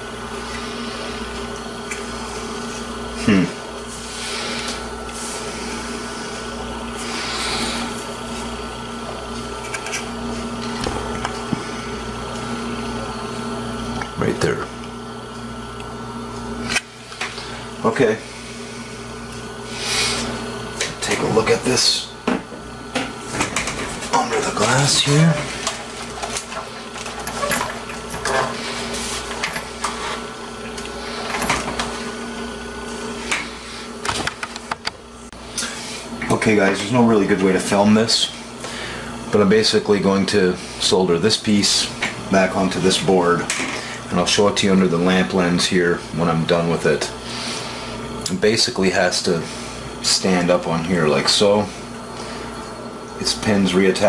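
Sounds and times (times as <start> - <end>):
bench equipment hum: 0.0 - 54.0.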